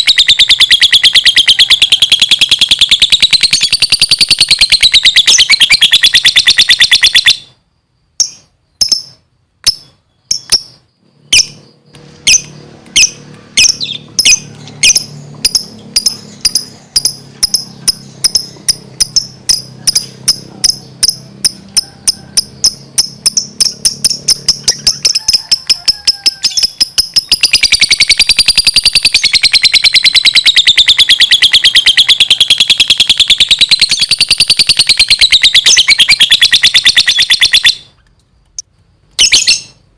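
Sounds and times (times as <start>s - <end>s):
lovebird chattering and trilling: 0.0s - 7.5s, 8.2s - 39.9s.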